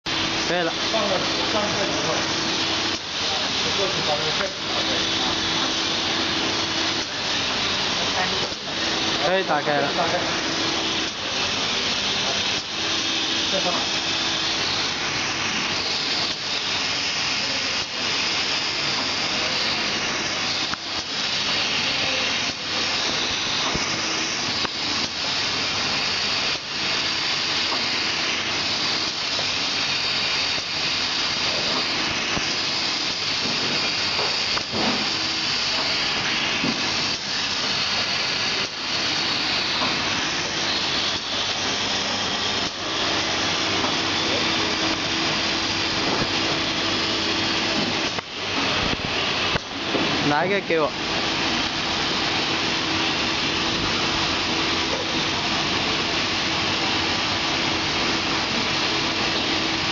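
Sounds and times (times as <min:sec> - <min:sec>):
packaging machine hissing: 0:00.1 - 0:59.9.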